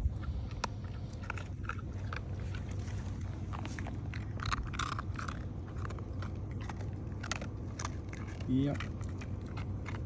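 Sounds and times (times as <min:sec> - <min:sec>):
dog chewing and crunching: 0:00.0 - 0:10.0
steady low hum: 0:00.0 - 0:10.0.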